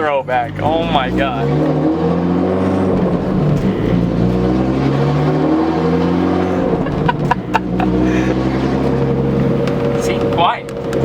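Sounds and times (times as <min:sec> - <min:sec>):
loud car exhaust: 0:00.0 - 0:11.0.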